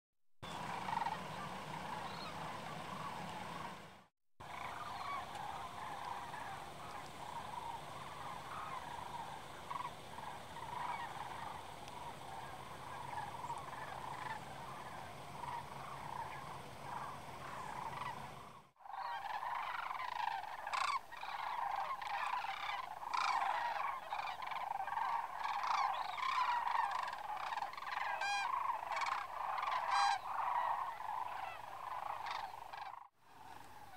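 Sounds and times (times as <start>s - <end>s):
flock of cranes calling: 0.4s - 33.9s.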